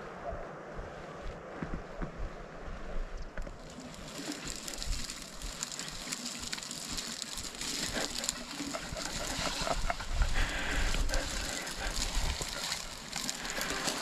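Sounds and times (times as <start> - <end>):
dry vegetation rustling and crackling: 0.0 - 14.0.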